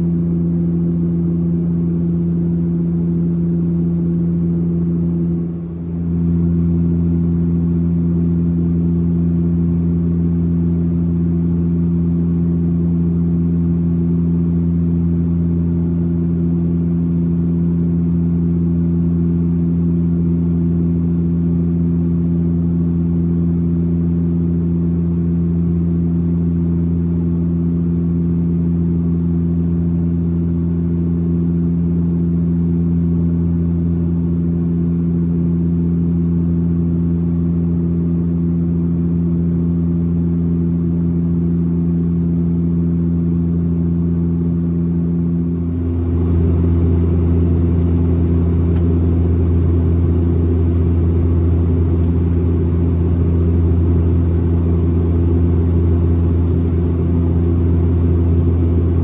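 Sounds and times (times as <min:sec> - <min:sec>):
turboprop cabin drone: 0:00.0 - 0:59.0.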